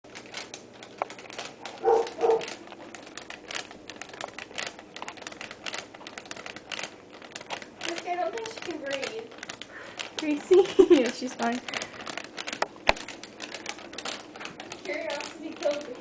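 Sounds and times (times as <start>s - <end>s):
foil chip bag crinkling: 0.1s - 16.0s.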